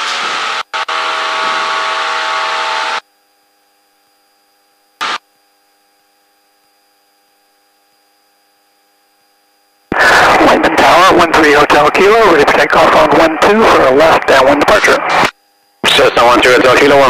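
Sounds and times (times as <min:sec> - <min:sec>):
faint avionics hum: 0:03.1 - 0:17.0.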